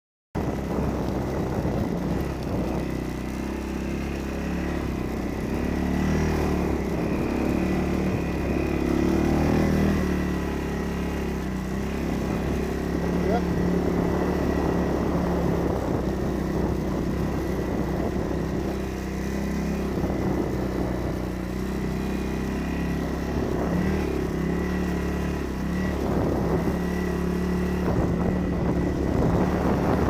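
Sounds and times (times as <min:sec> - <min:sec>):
atv engine running: 0:00.4 - 0:30.0.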